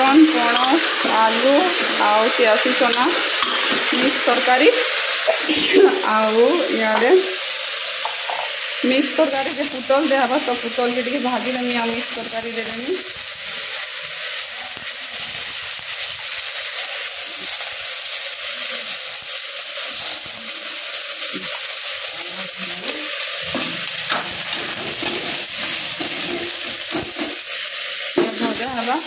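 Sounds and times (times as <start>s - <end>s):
gourd sizzling in hot oil: 0.0s - 29.0s.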